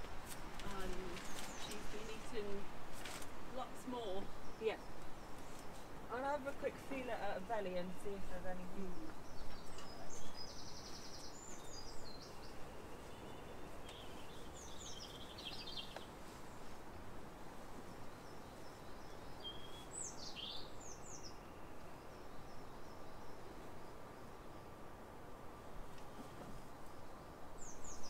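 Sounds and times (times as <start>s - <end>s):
background hiss: 0.0s - 28.0s
songbirds singing: 0.0s - 28.0s.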